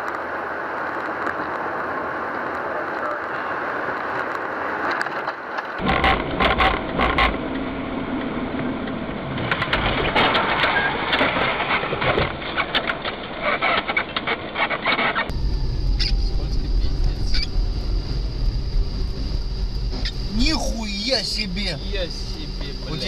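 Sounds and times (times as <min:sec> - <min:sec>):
road and engine noise: 0:00.0 - 0:23.0.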